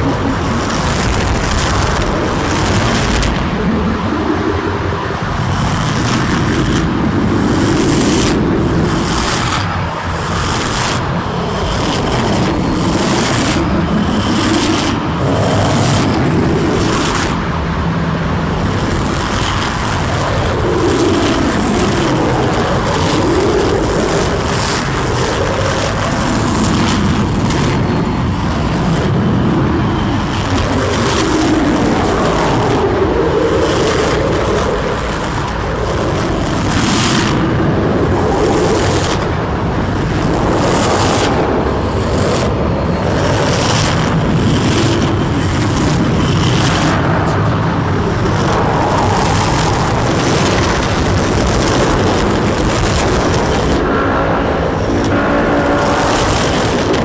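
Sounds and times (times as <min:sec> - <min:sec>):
experimental noise music: 0:00.0 - 0:57.0.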